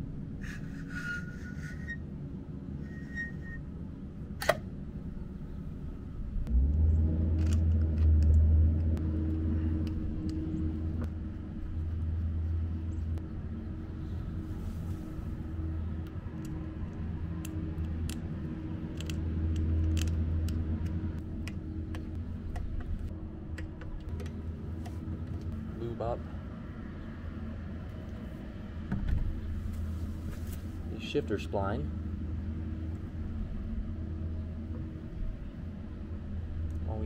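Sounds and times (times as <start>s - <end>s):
loud low engine rumble: 0.0s - 37.0s.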